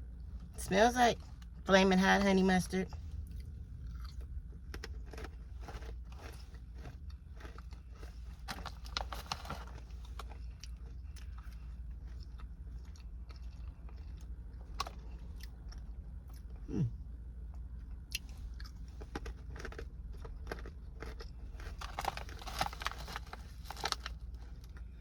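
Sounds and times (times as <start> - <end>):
person crunching pretzels: 3.4 - 16.9, 18.1 - 25.0.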